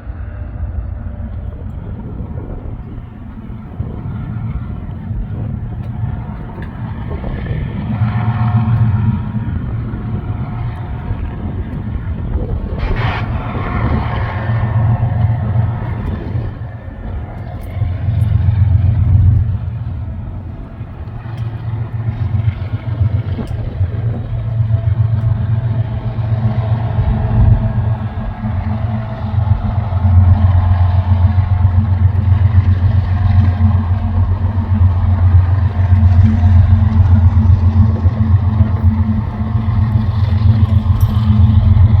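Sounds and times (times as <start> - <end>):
diesel locomotives rumbling past: 0.0 - 42.0.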